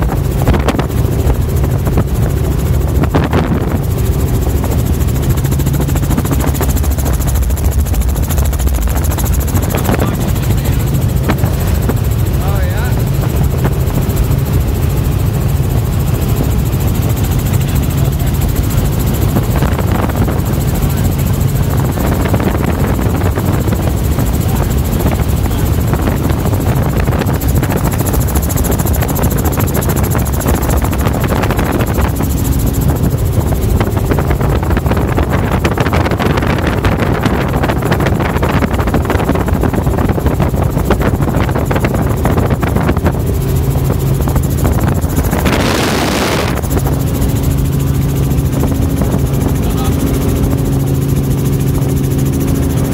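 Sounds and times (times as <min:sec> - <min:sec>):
helicopter rotor and engine drone: 0:00.0 - 0:52.9
rushing wind: 0:00.0 - 0:52.9.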